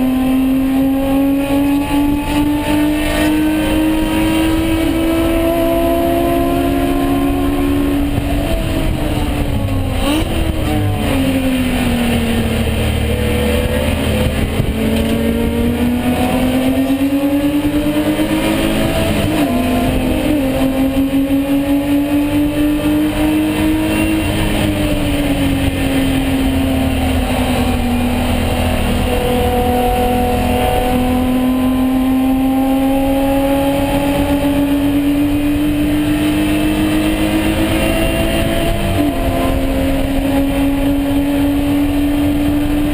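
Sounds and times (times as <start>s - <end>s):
race car engine revving: 0.0s - 42.9s.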